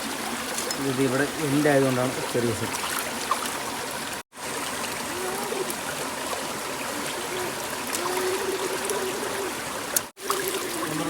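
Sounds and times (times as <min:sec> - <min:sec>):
running water trickling: 0:00.0 - 0:11.0.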